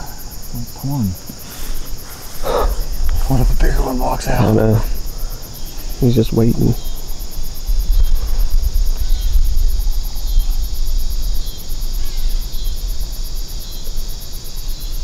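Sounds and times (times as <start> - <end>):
wind buffeting microphone: 0.0 - 14.2
crickets and insects chirping: 0.0 - 15.0.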